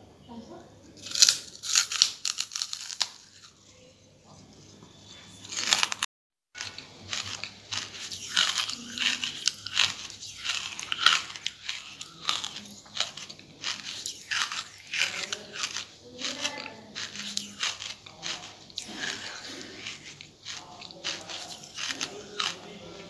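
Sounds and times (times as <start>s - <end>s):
person crunching charcoal: 1.0s - 3.6s, 5.4s - 23.0s.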